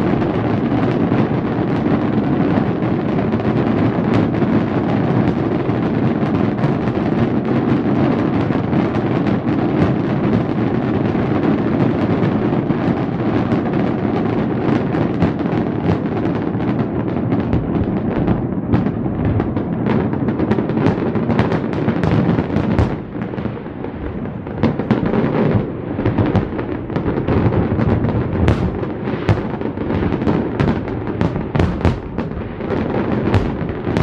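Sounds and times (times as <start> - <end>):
deep fireworks booms: 0.0 - 34.0
sharp fireworks cracks: 0.0 - 34.0.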